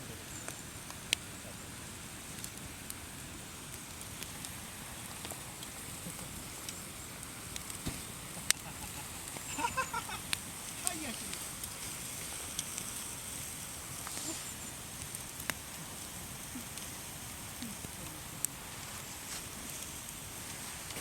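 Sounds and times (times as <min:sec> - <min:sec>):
wood fire crackling: 0:00.0 - 0:21.0
sharp pops of fire: 0:00.4 - 0:21.0.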